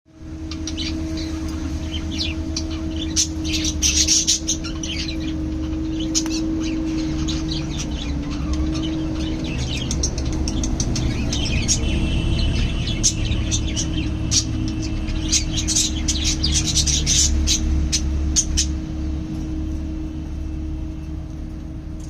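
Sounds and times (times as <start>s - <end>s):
steady low hum: 0.1s - 22.0s
small parrots chirping and chattering: 0.3s - 19.6s.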